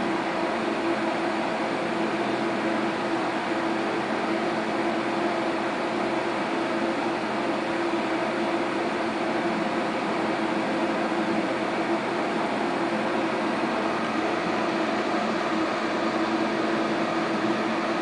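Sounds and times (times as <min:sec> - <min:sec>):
electric fan rushing air: 0:00.0 - 0:18.0
fan low hum: 0:00.0 - 0:18.0.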